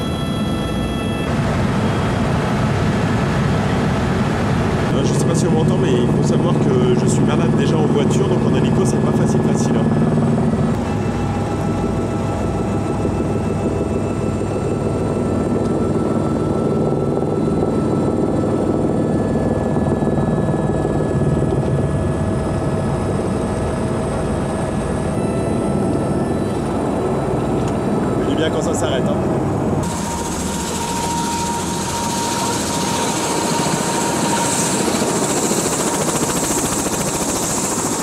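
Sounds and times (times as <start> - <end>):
helicopter engine and rotor: 0.0 - 38.0.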